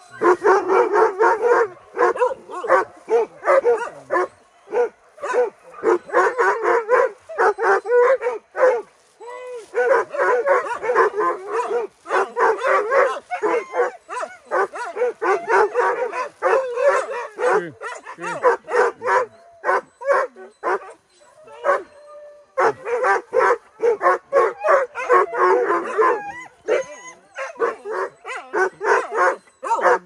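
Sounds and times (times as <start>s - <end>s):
dogs barking and yelping: 0.0s - 30.0s.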